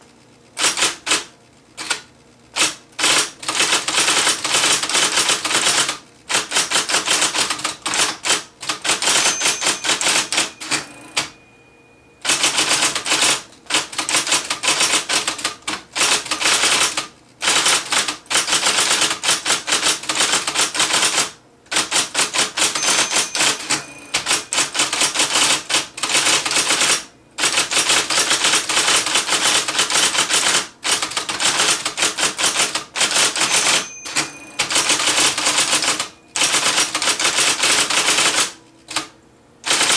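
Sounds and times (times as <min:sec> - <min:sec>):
electric typewriter typing: 0:00.6 - 0:11.6, 0:12.2 - 0:39.9.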